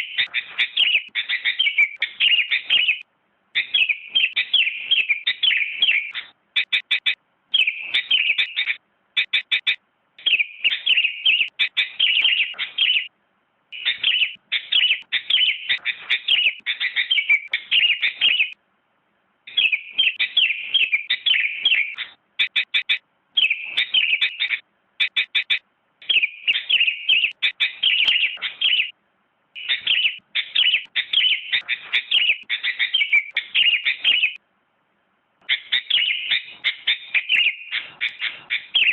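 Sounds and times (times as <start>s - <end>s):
bird singing chirpy notes: 0.0s - 13.1s, 13.8s - 18.6s, 19.5s - 29.0s, 29.6s - 34.4s, 35.4s - 38.9s.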